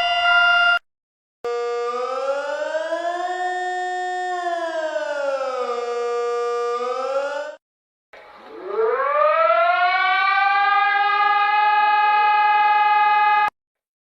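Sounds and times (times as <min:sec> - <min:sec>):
emergency alert siren wailing: 0:00.0 - 0:00.8, 0:01.5 - 0:07.6, 0:08.4 - 0:13.5.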